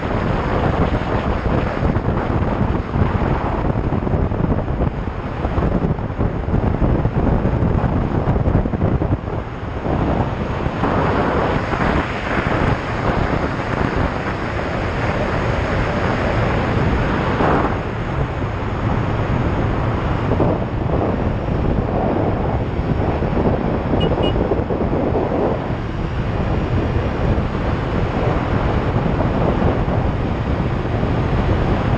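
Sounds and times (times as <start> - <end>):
motorcycle engine and tyres: 0.0 - 31.9
wind rushing over microphone: 0.0 - 31.9.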